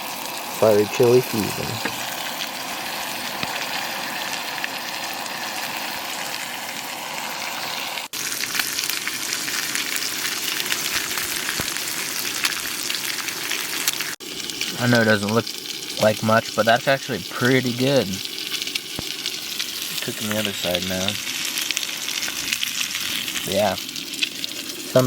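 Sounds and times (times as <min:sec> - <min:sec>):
fish sizzling in a pan: 0:00.0 - 0:25.0.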